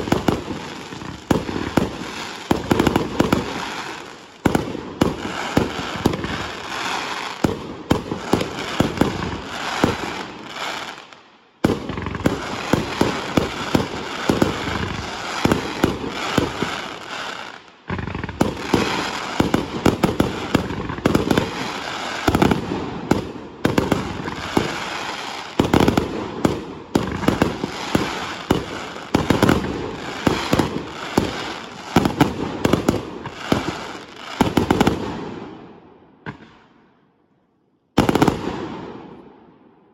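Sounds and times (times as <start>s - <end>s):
fireworks bangs and crackles: 0.0s - 36.9s, 37.9s - 39.6s.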